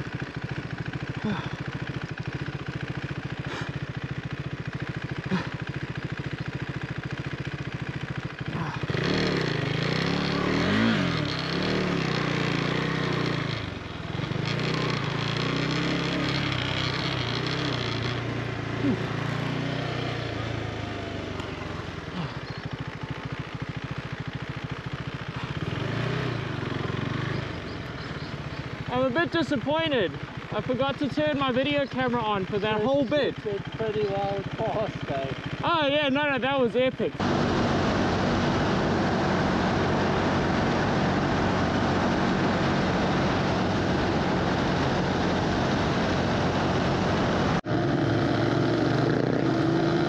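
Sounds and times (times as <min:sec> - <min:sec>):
motorcycle engine revving: 0:00.0 - 0:50.0
wind and tyres on dirt: 0:00.0 - 0:50.0.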